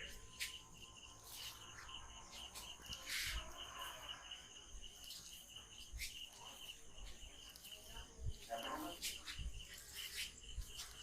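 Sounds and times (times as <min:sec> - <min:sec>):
insect chirping trill: 0:00.0 - 0:11.0.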